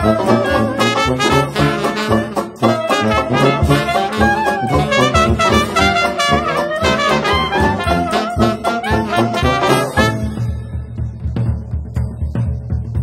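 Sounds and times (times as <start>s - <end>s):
brass-led jazz: 0.0s - 10.9s.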